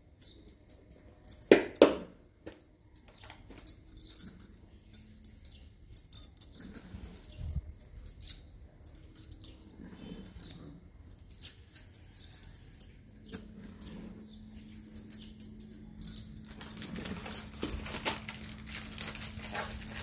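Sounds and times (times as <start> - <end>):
glass bangles clinking: 0.0 - 20.0.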